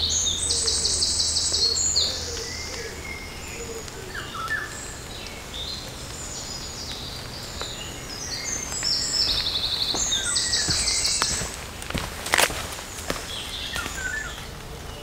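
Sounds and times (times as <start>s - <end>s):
footsteps on leaf litter: 0.0s - 15.0s
songbirds singing: 0.0s - 15.0s.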